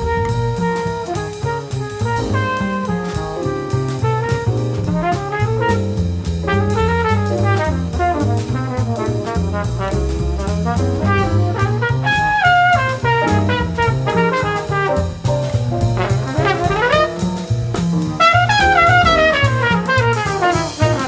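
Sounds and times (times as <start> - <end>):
alto saxophone melody: 0.0 - 15.2, 16.0 - 17.4, 18.2 - 21.0
flugelhorn melody: 0.0 - 15.3, 15.9 - 17.5, 18.2 - 21.0
bass: 0.0 - 21.0
drums: 0.0 - 21.0.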